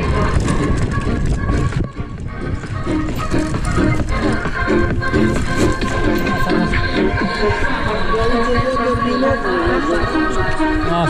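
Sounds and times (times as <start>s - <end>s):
pulsing background music: 0.0s - 11.0s.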